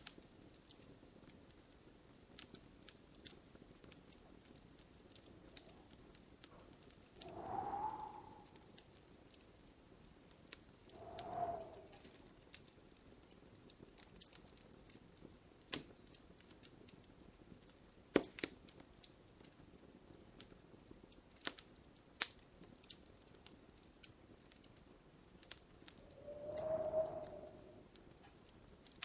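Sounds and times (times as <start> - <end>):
faint steady hiss: 0.0 - 29.0
wood fire popping and snapping: 0.0 - 29.0.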